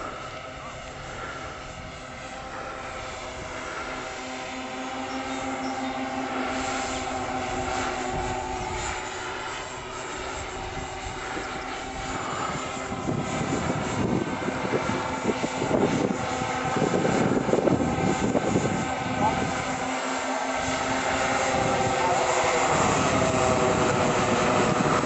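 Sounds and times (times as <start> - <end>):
electric motors and propellers whining: 0.0 - 25.0
rough gusty rumble: 0.0 - 25.0.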